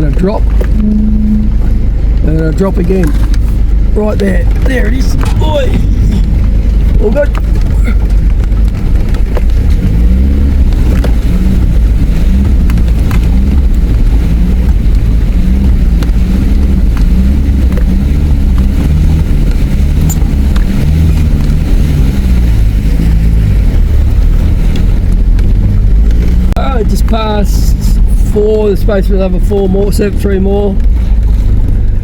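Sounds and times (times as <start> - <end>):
heavy low rumble: 0.0 - 32.0
vehicle engine running under load: 0.0 - 32.0.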